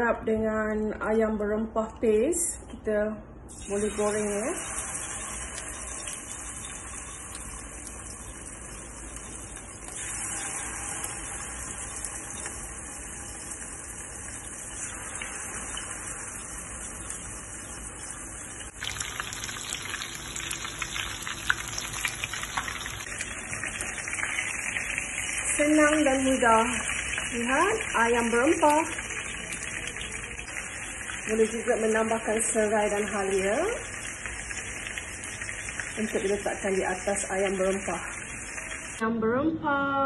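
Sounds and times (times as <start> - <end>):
chicken sizzling in frying pan: 3.5 - 39.0.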